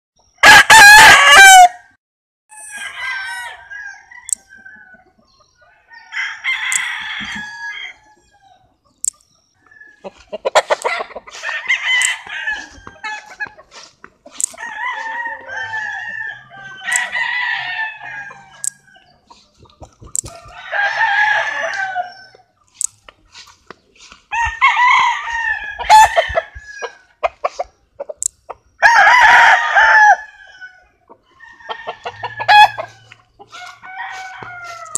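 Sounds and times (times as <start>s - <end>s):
roosters crowing: 0.4s - 8.8s, 9.6s - 34.9s
chickens clucking: 2.5s - 34.9s.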